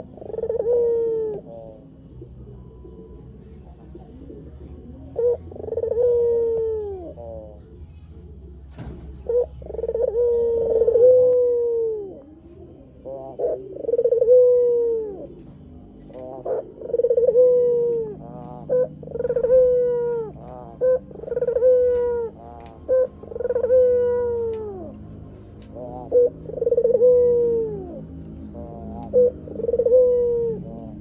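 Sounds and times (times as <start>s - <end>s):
dove cooing: 0.0s - 31.0s.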